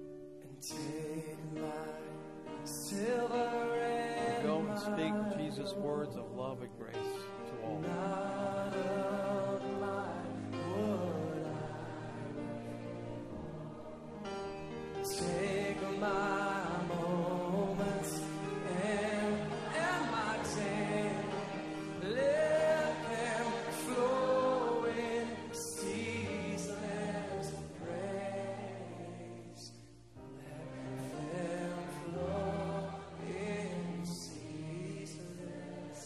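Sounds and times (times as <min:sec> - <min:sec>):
group singing a hymn: 0:00.7 - 0:06.1, 0:07.2 - 0:36.0.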